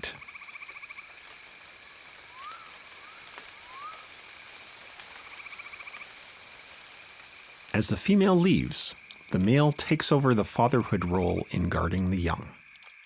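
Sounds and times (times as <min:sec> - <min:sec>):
frogs chirping: 0:00.0 - 0:13.0.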